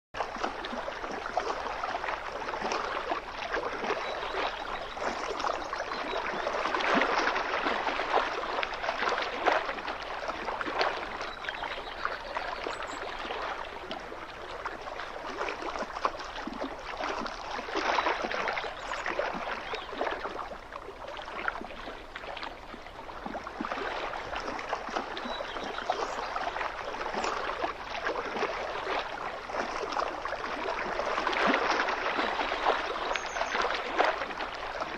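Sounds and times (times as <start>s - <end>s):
small waves lapping shore: 0.2s - 34.9s
water gurgling and trickling: 0.2s - 34.9s.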